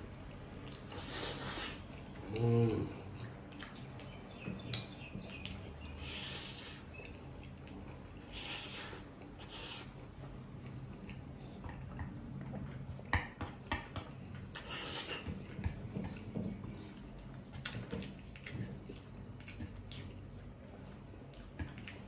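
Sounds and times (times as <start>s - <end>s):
wet chewing with smacking clicks: 0.3s - 1.0s, 1.8s - 5.9s, 6.7s - 8.3s, 9.0s - 22.0s.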